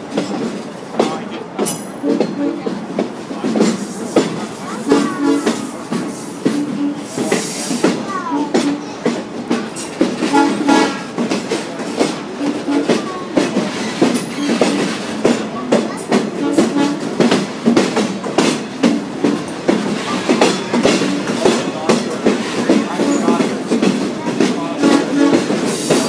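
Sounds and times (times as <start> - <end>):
train wheels clicking over rail joints: 0.0 - 26.0.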